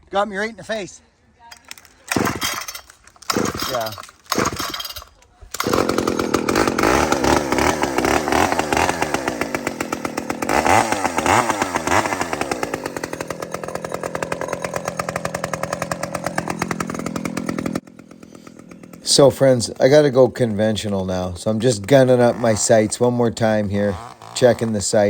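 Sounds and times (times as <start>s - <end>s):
chainsaw running: 1.8s - 25.0s.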